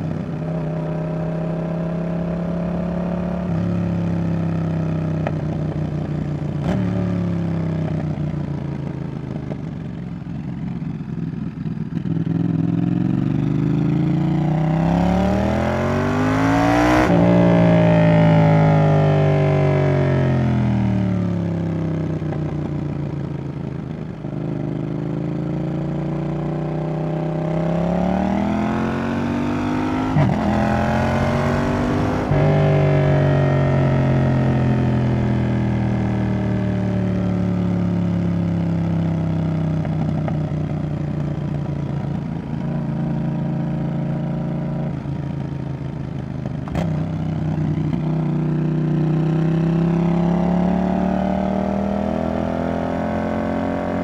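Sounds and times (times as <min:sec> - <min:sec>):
motorcycle engine revving: 0:00.0 - 0:11.0, 0:11.8 - 0:54.0.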